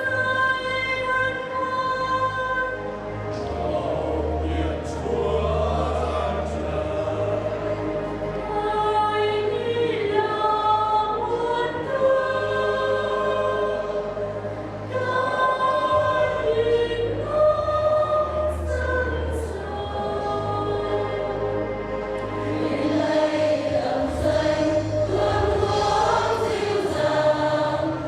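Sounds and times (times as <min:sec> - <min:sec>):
church choir singing a hymn: 0:00.0 - 0:28.0.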